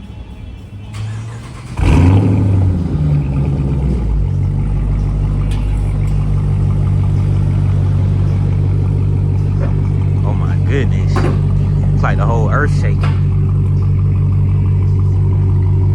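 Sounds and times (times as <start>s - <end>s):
car engine starting and idling: 0.0s - 15.9s.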